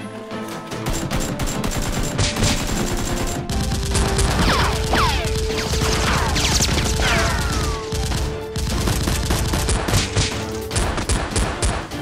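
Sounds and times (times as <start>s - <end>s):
background music: 0.0s - 12.0s
automatic gunfire: 0.8s - 12.0s.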